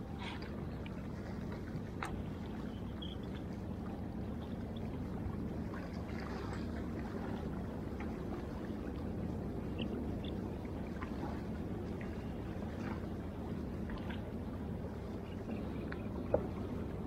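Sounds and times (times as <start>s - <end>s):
water lapping against hull: 0.0s - 17.0s.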